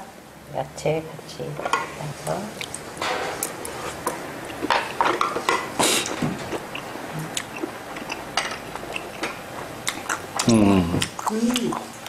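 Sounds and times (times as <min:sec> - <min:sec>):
chopsticks tapping plates: 0:01.6 - 0:11.8.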